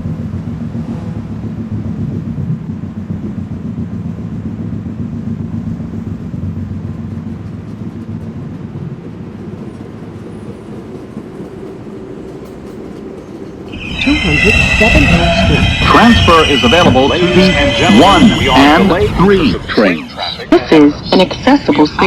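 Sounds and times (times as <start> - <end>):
subway car rumbling on rails: 0.0 - 22.0.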